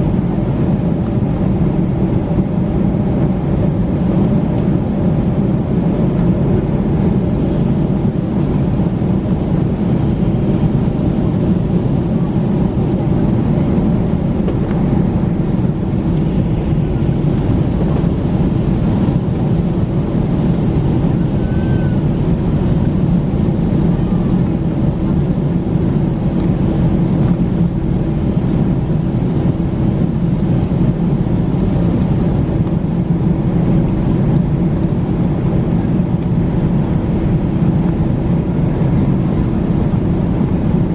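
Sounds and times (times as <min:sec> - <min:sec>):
airplane cabin engine rush: 0:00.0 - 0:40.9.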